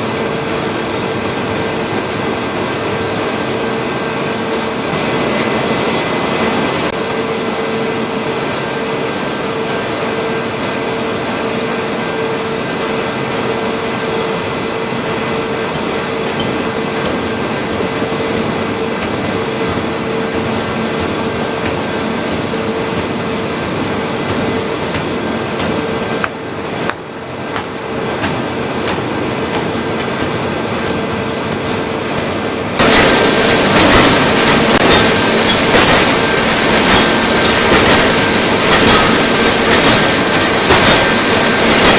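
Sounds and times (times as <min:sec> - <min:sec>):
constant hum: 0:00.0 - 0:41.9
forging machinery industrial din: 0:00.0 - 0:41.9.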